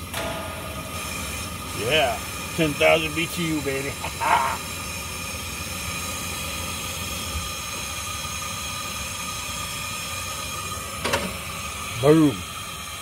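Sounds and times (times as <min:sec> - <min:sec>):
gas burner hissing: 0:00.0 - 0:13.0.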